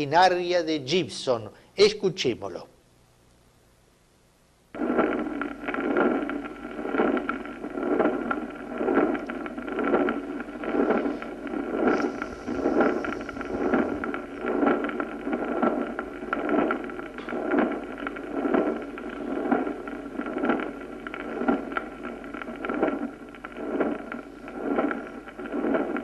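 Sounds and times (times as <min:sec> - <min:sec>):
rushing heart murmur: 0:04.8 - 0:26.0.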